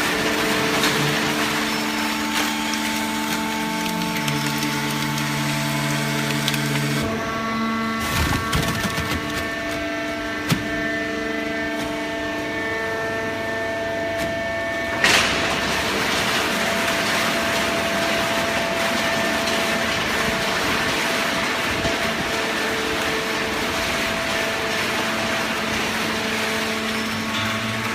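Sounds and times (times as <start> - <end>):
machine hum with whining tones: 0.0 - 27.9.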